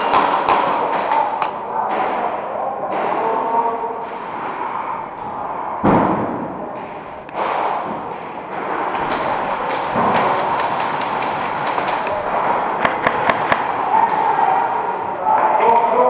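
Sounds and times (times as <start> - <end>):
background din of a hall: 0.0 - 16.0.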